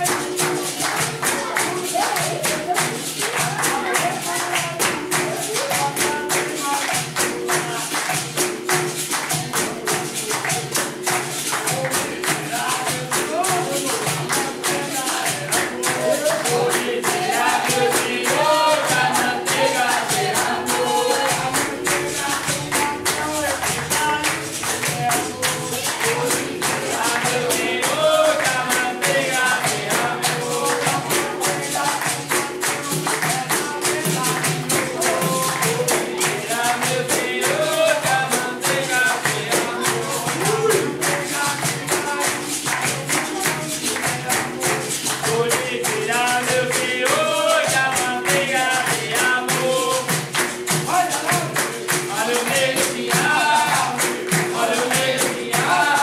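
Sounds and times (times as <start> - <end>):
hand percussion rhythm: 0.0 - 56.0
voices singing: 0.0 - 56.0.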